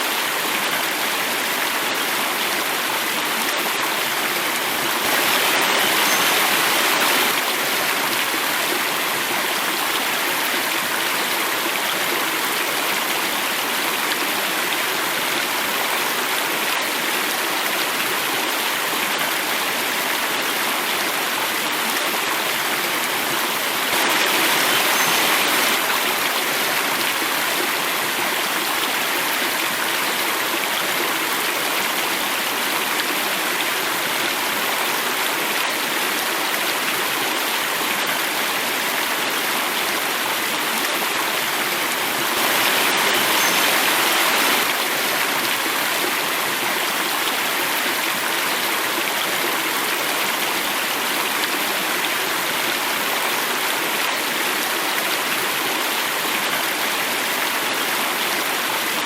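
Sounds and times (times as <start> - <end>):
water rushing in small cascade: 0.0 - 59.0.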